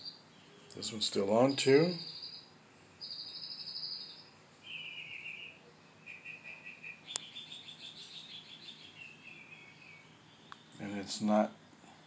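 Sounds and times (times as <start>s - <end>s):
pulsed chirping trills: 0.0s - 10.8s.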